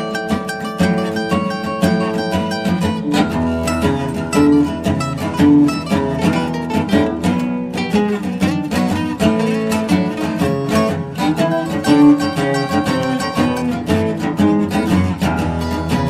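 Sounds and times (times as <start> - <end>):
acoustic guitar plucked and strummed: 0.0 - 16.0.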